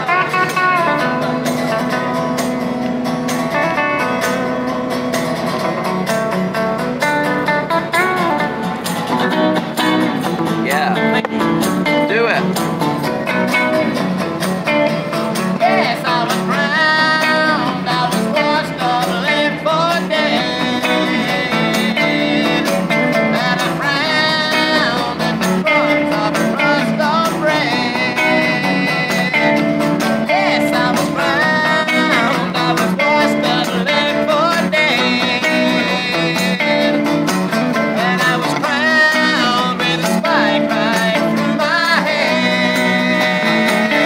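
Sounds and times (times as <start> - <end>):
acoustic rhythm guitar: 0.0 - 44.0
electric guitar lead: 0.0 - 44.0.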